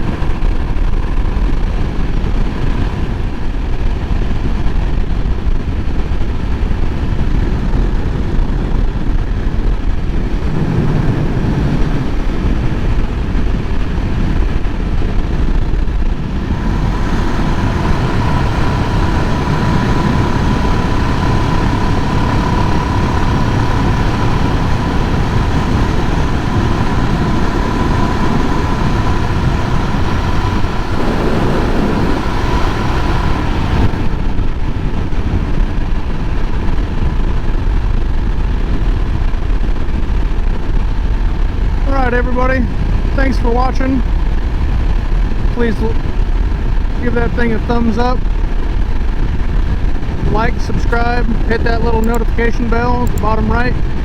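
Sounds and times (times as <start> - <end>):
motorcycle engine running: 0.0 - 54.0
steady high whine: 0.0 - 54.0
wind rush on microphone: 0.0 - 54.0.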